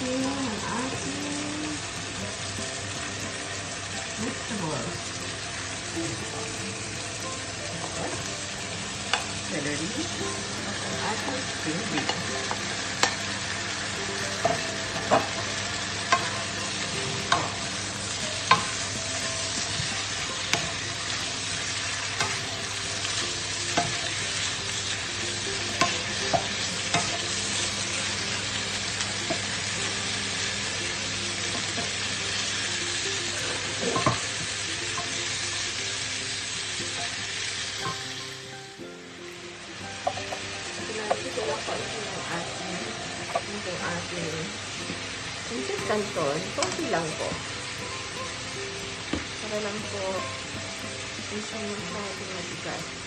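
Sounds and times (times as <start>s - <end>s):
food sizzling in frying pan: 0.0s - 53.0s.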